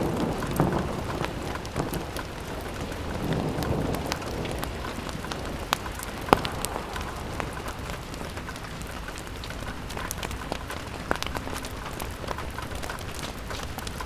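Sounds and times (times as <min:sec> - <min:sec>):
fireplace crackling and popping: 0:00.0 - 0:14.0
rain pattering on a window: 0:00.0 - 0:14.0.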